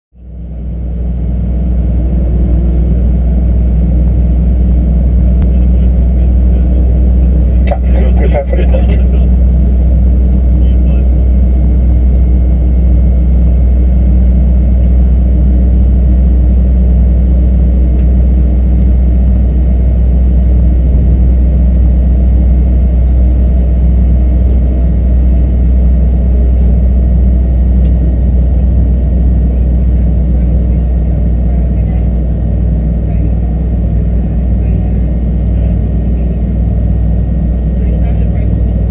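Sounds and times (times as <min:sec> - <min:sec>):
faint engine whine: 0:00.2 - 0:38.9
jet engine low rumble: 0:00.2 - 0:38.9.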